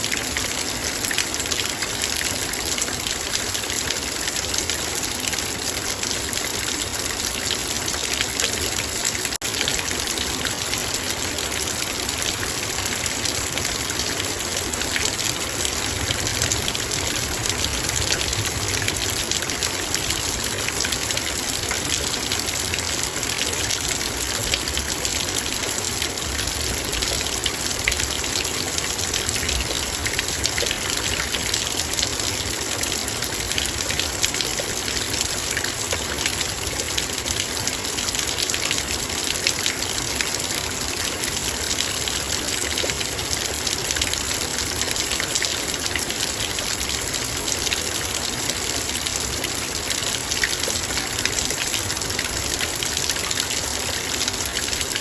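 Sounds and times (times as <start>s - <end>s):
heavy rain on a metal bowl: 0.0s - 55.0s.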